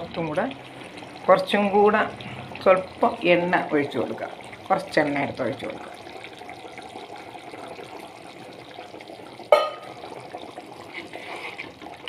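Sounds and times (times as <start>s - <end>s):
curry simmering: 0.0s - 12.0s
oil pouring: 0.0s - 12.0s.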